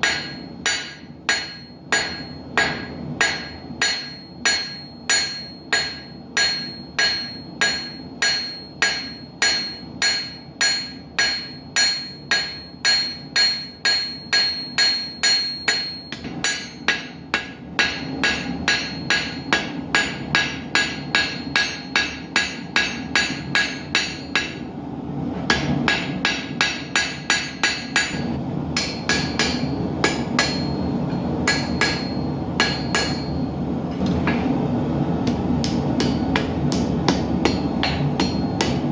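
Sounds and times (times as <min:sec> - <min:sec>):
hammer striking steel on anvil: 0:00.0 - 0:24.7, 0:25.4 - 0:33.6, 0:35.2 - 0:38.9.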